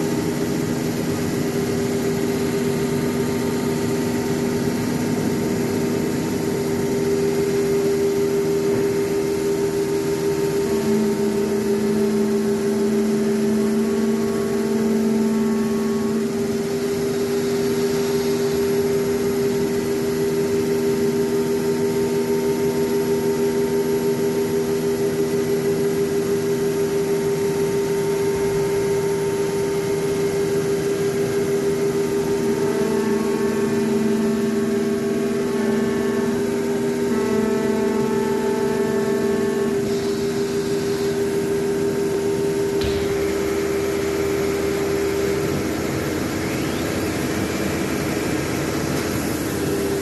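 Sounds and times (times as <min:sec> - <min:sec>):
router machine humming: 0:00.0 - 0:50.0.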